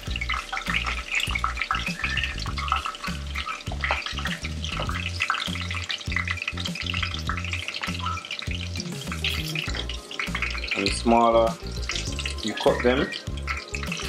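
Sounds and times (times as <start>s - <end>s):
background music with bass: 0.0s - 14.0s
chicken sizzling in hot oil: 0.0s - 14.0s.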